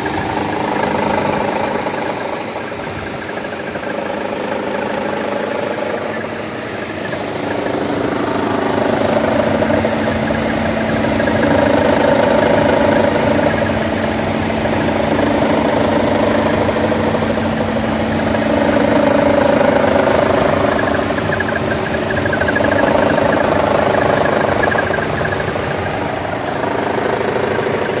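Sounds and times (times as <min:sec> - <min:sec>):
car engine idling roughly: 0:00.0 - 0:28.0.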